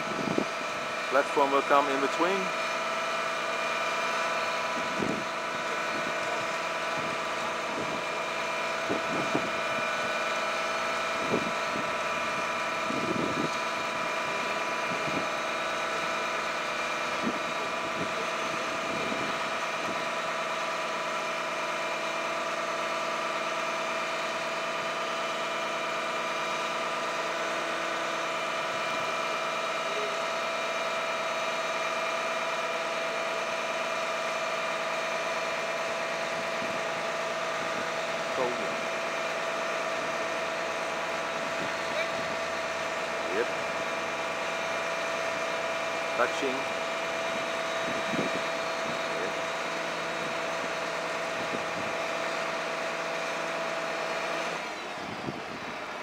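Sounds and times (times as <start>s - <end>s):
truck engine and hydraulics whining: 0.0s - 56.0s.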